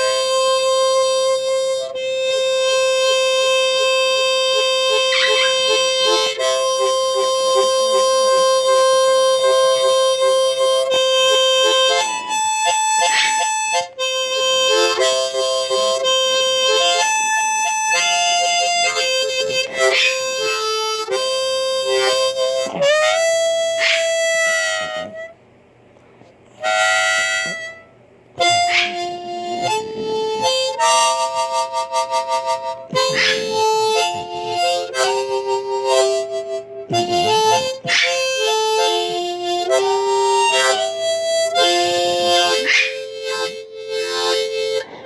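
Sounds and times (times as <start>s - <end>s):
blues harmonica: 0.0s - 25.4s, 26.2s - 45.0s.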